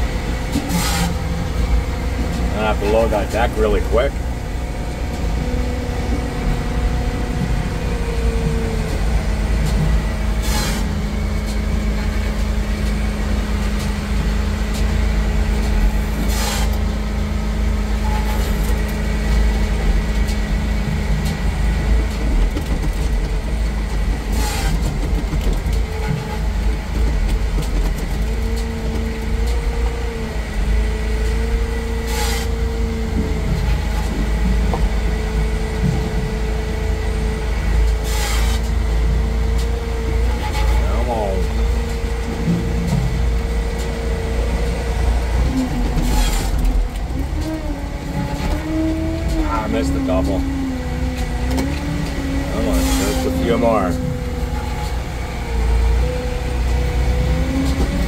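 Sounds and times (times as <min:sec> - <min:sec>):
wheel loader diesel engine: 0:00.0 - 0:58.0.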